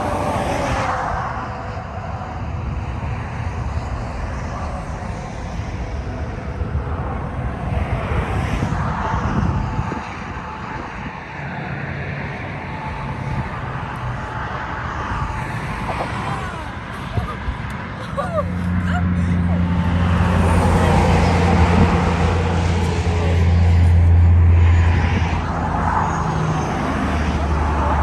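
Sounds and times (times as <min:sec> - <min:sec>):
low engine or traffic rumble: 0:00.0 - 0:28.0.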